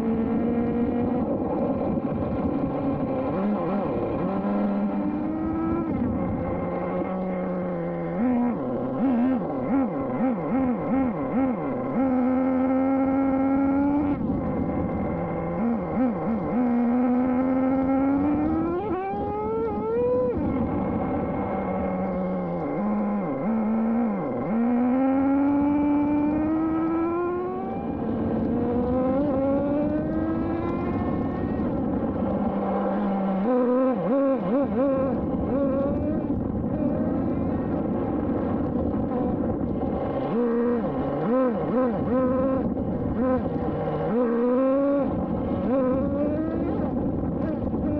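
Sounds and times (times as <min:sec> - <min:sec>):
nitro engine revving: 0:00.0 - 0:47.9
road and wind noise: 0:00.0 - 0:47.9.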